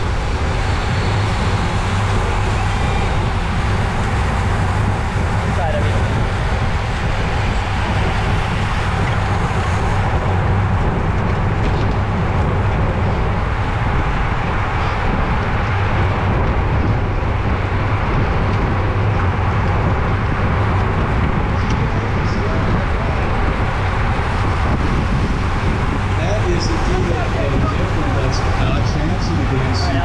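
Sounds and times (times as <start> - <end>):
road and tyre noise: 0.0 - 30.0
wind rushing on microphone: 0.0 - 30.0.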